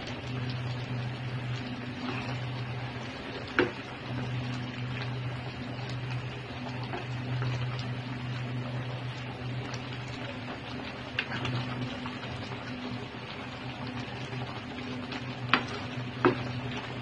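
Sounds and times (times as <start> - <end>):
curry simmering and stirred: 0.0 - 17.0
steady low hum: 0.0 - 17.0.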